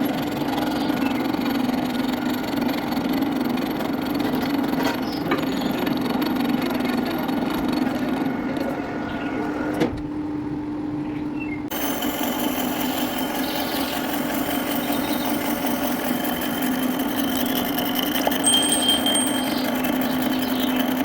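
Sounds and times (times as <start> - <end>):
metal lathe humming: 0.0 - 9.6, 11.7 - 21.0.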